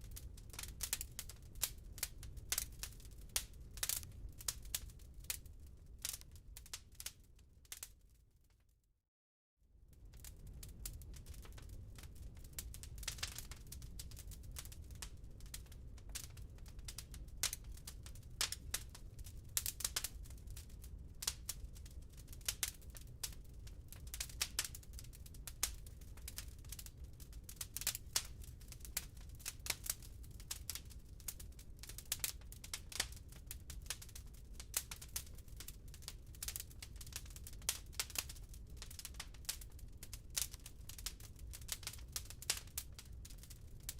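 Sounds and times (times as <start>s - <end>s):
wood fire crackling and popping: 0.0s - 8.1s, 9.9s - 43.9s.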